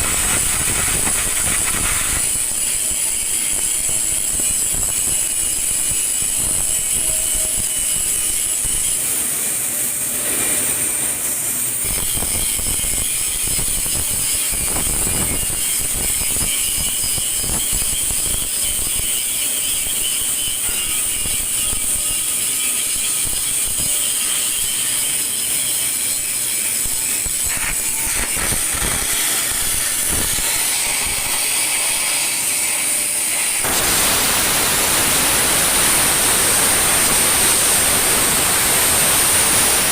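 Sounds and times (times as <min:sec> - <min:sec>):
welding arc hissing: 0:00.0 - 0:39.9.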